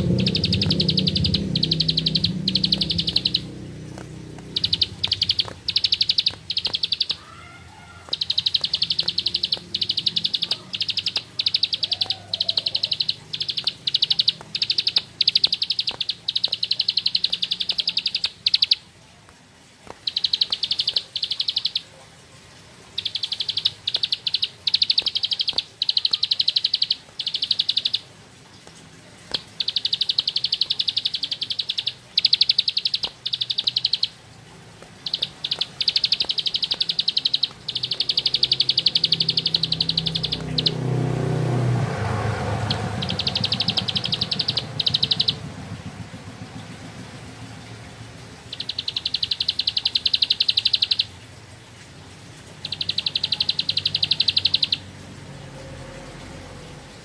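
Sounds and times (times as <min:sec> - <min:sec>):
bird singing buzzy trills: 0:00.0 - 0:19.1, 0:19.8 - 0:51.3, 0:52.4 - 0:57.0.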